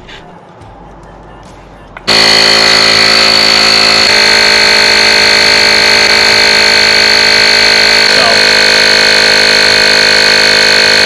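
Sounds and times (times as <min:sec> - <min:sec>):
tire inflator compressor whining: 0:02.0 - 0:11.0.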